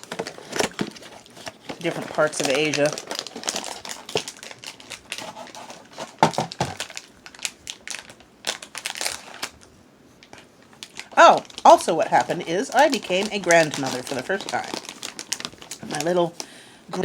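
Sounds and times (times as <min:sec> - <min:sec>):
snack packet crinkling: 0:00.0 - 0:16.6.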